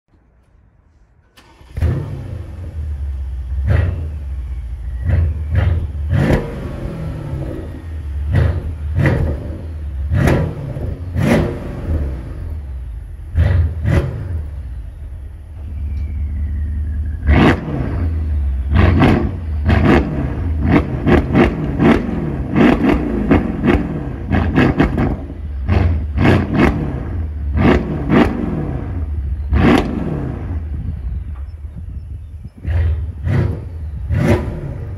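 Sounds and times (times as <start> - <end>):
car engine starting and revving: 1.2 - 31.4, 32.4 - 34.9.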